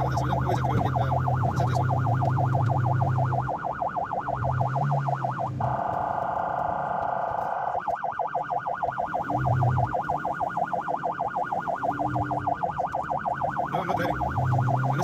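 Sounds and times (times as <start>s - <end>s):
ambulance siren: 0.0s - 15.0s.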